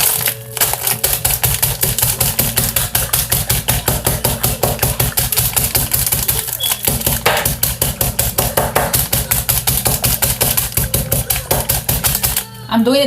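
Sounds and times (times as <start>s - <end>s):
chip bag being pounded: 0.0s - 12.5s.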